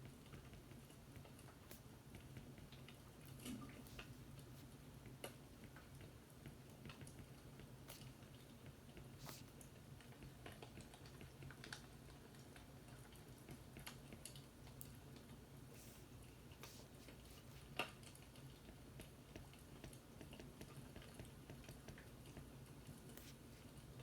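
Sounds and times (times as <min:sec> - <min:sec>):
faint fireplace crackling: 0:00.0 - 0:24.0.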